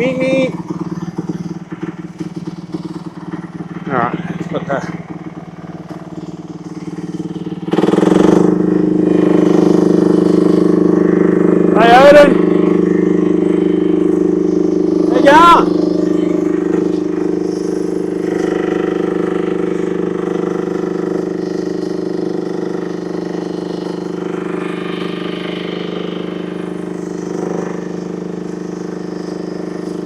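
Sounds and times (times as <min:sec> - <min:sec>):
excavator engine running: 0:00.0 - 0:30.0.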